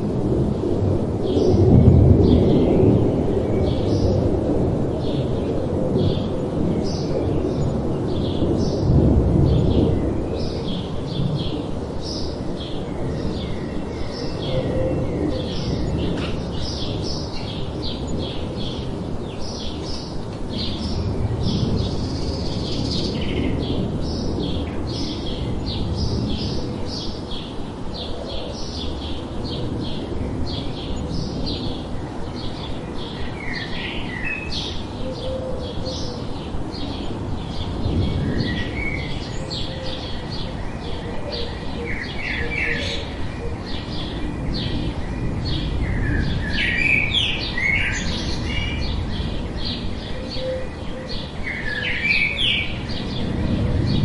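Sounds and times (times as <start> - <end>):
birds chirping busily: 0.0 - 54.0.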